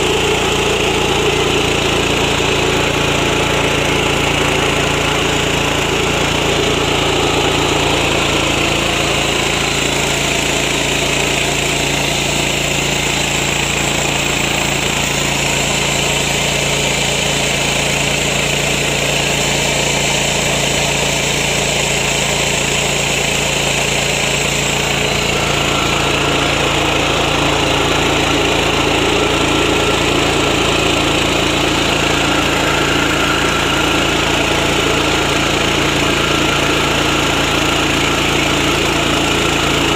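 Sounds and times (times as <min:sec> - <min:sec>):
rice milling machine: 0:00.0 - 0:39.9
small petrol engine running: 0:00.0 - 0:39.9.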